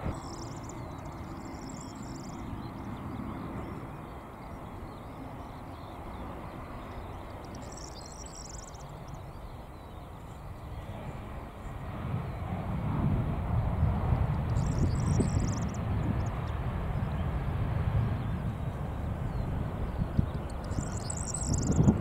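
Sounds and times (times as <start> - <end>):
birds chirping: 0.0 - 12.6, 14.2 - 22.0
jet plane landing: 0.0 - 22.0.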